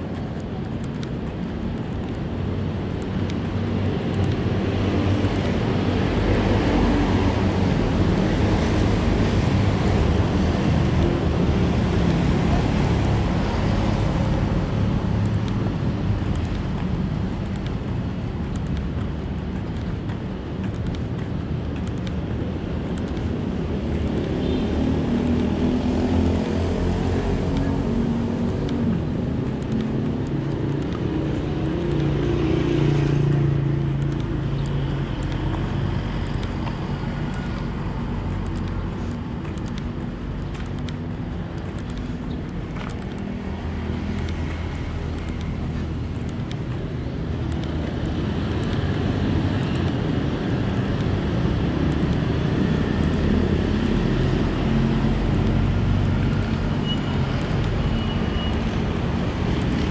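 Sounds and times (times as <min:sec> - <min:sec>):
road noise: 0:00.0 - 0:59.9
vehicle engine hum: 0:00.0 - 0:59.9.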